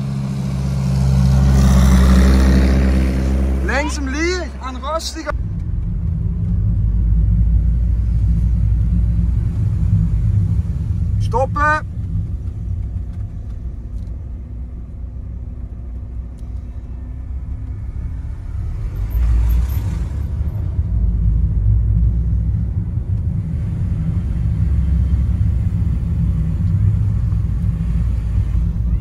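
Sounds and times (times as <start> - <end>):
car rumble from inside: 0.0 - 29.0.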